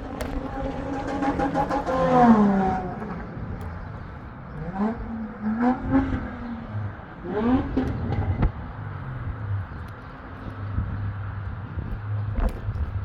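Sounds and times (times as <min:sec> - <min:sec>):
car engines accelerating: 0:00.0 - 0:13.0.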